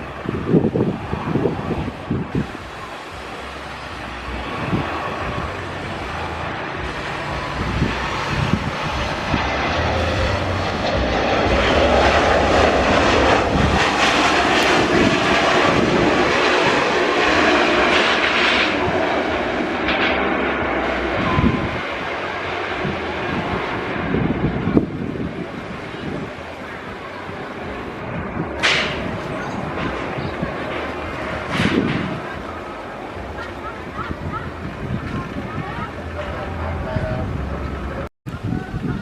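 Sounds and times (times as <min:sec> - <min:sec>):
jet engines roaring: 0:00.0 - 0:39.0
wind buffeting microphone: 0:00.0 - 0:39.0.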